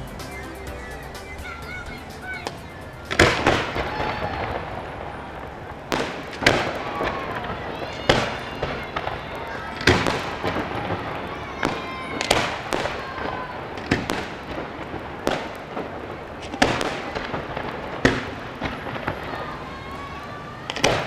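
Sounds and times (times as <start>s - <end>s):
small firework cracks: 2.5s - 21.0s.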